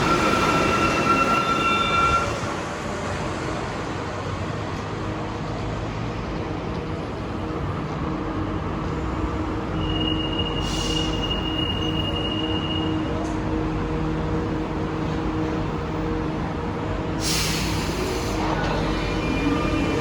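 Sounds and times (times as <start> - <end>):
metro train rumble: 0.0 - 20.0.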